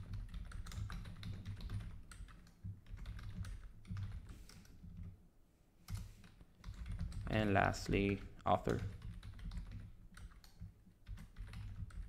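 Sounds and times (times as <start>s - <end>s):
computer keyboard typing: 0.0s - 5.2s, 5.9s - 12.0s.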